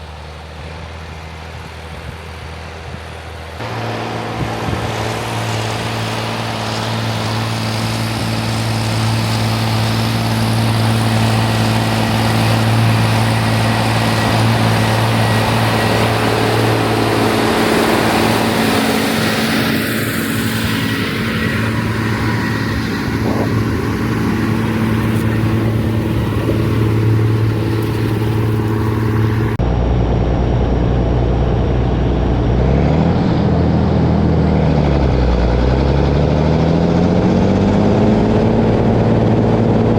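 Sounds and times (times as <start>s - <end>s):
deep heavy engine: 0.0s - 39.9s
tractor diesel engine running: 0.0s - 39.9s.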